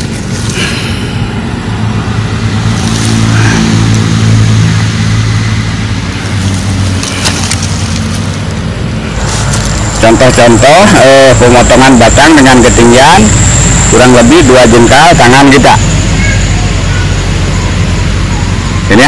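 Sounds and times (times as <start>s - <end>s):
engine hum: 0.0s - 19.0s
loud rushing noise: 0.0s - 19.0s.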